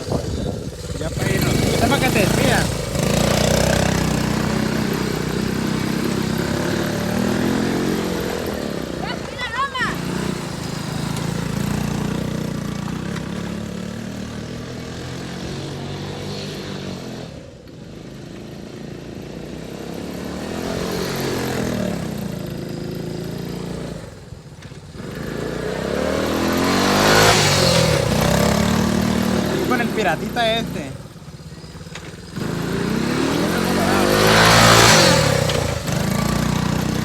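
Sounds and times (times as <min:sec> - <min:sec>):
small motorcycle engine revving: 0:00.0 - 0:37.0.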